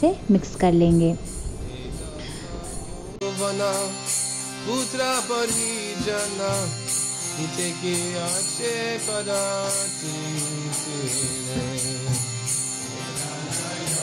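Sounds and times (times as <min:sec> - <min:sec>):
devotional music with jingling beat: 0:00.5 - 0:14.0.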